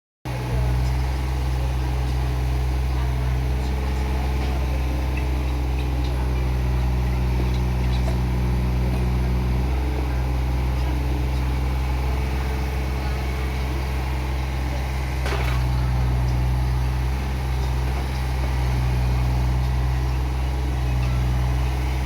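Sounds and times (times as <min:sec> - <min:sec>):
excavator diesel engine droning: 0:00.3 - 0:22.0.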